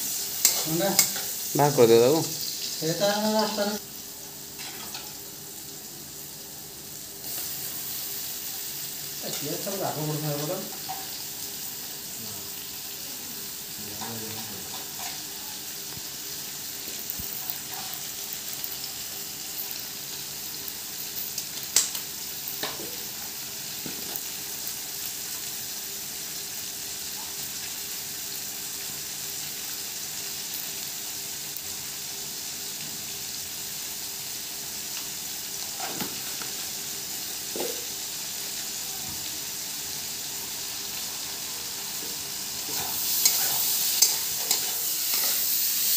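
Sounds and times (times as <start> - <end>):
onions sizzling in oil: 0.0 - 45.9.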